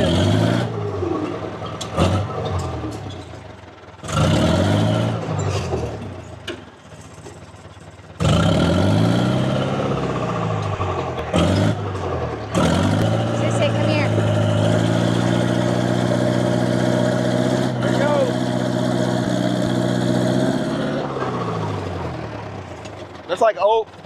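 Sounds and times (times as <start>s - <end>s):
dozer diesel engine revving: 0.0s - 24.0s.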